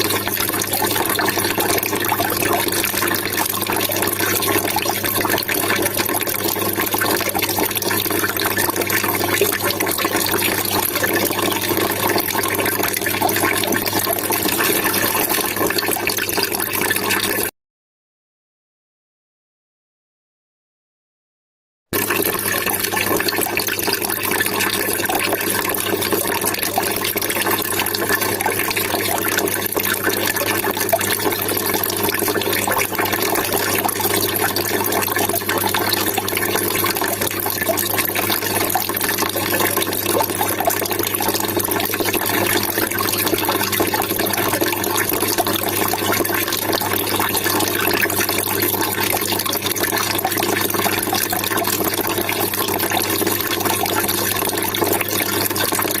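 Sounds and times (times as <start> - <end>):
water trickling and splashing: 0.0 - 17.5, 22.0 - 56.0.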